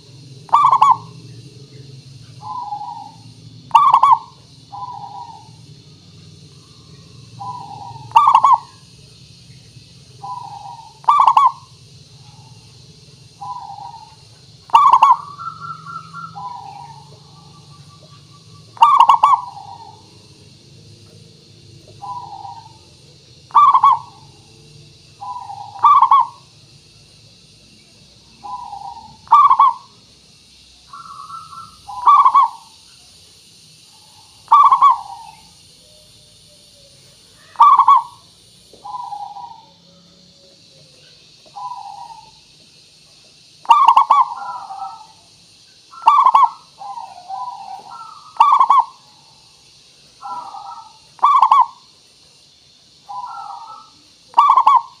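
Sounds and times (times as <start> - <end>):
doves cooing: 0.0 - 26.7, 28.2 - 30.1, 30.9 - 51.9, 52.9 - 55.0.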